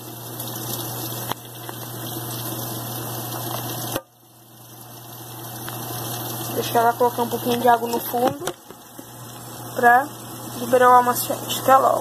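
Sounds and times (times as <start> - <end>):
washing machine filling with water: 0.0 - 12.0.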